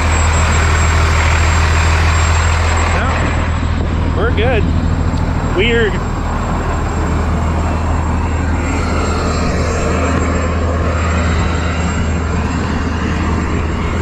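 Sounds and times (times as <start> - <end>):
highway road noise: 0.0 - 14.0
truck engine idling: 0.0 - 14.0.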